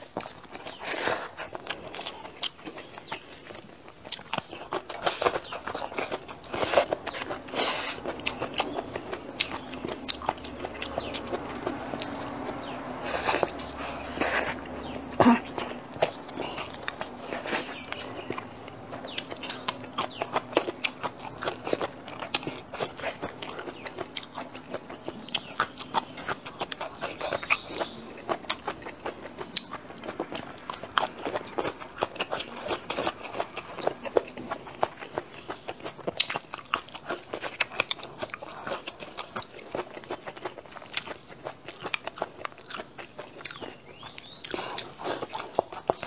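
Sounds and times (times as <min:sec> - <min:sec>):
crunchy chewing and biting: 0:00.0 - 0:46.0.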